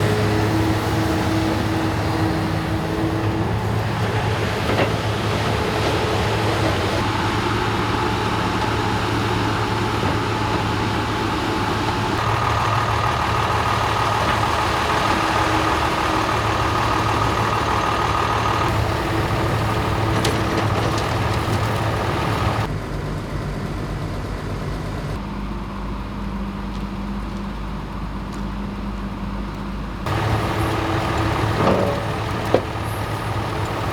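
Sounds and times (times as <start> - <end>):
heavy diesel machinery running: 0.0 - 33.9.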